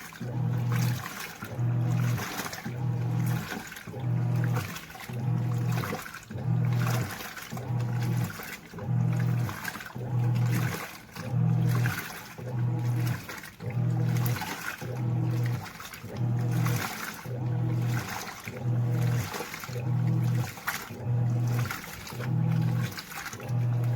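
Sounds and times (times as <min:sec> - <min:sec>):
washing machine motor humming: 0:00.0 - 0:23.9
water sloshing in tub: 0:00.0 - 0:23.9.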